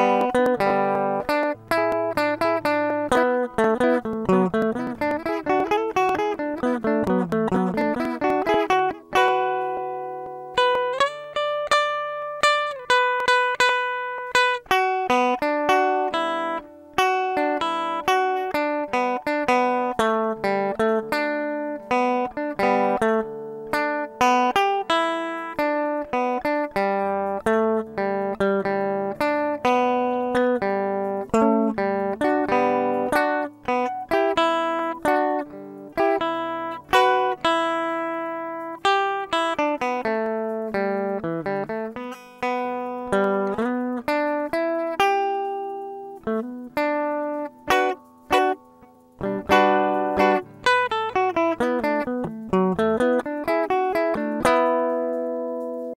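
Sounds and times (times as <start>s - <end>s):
guitar plucked melody: 0.0s - 55.9s.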